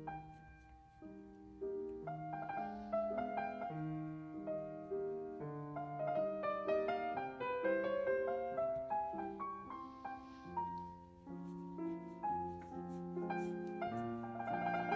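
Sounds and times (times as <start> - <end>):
gentle piano melody: 0.0 - 14.9.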